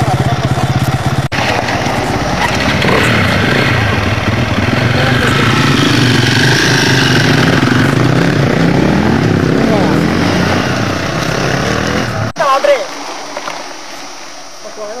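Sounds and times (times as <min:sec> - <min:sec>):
off-road car engines driving past: 0:00.0 - 0:14.0.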